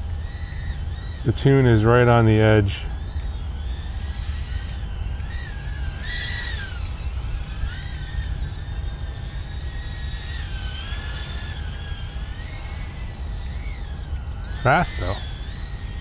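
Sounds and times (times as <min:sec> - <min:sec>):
drone motors whining: 0:00.0 - 0:16.0
low steady rumble: 0:00.0 - 0:16.0.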